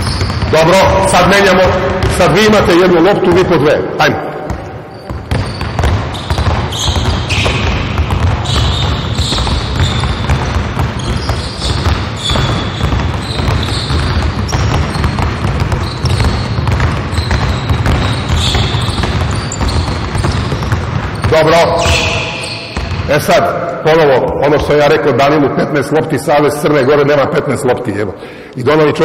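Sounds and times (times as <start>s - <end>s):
sneaker squeaks: 0.0s - 24.8s
basketballs bouncing on hardwood: 0.0s - 25.0s.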